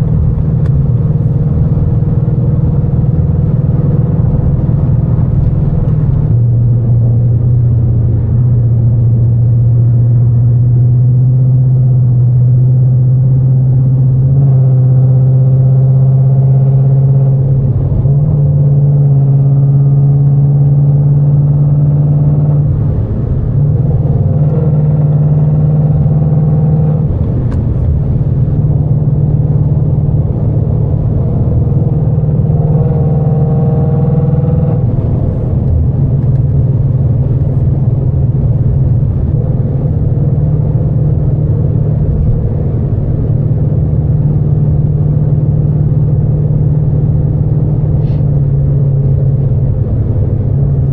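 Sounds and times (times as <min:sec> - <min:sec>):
loud car engine under load: 0:00.0 - 0:50.9.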